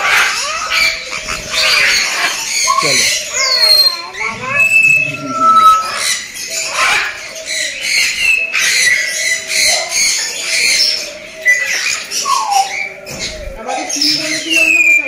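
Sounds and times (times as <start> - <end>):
parrots whistling and squawking: 0.0 - 15.0.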